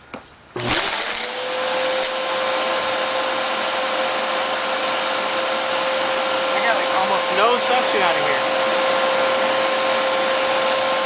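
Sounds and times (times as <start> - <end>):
vacuum cleaner motor whine: 0.6 - 11.0.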